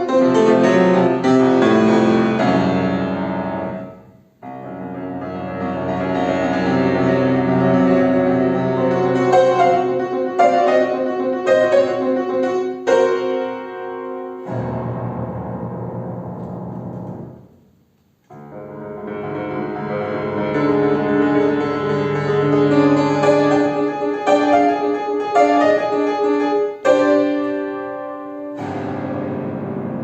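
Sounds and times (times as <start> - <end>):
piano playing: 0.0 - 17.7, 18.3 - 30.0.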